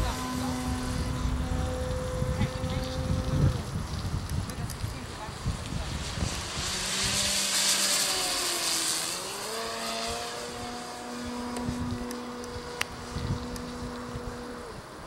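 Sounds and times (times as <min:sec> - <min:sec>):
model plane motor droning: 0:00.0 - 0:15.0
rush of air: 0:00.8 - 0:15.0.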